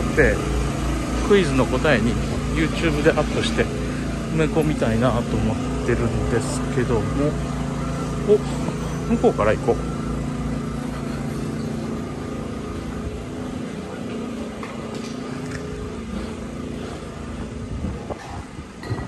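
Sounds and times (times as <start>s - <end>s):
motor engine humming: 0.0s - 19.0s
street noise: 0.0s - 19.0s.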